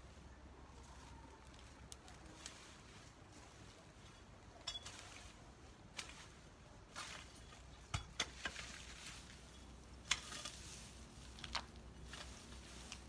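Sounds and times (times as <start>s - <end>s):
cut stems crunching and rustling: 0.9s - 4.2s, 4.8s - 13.0s.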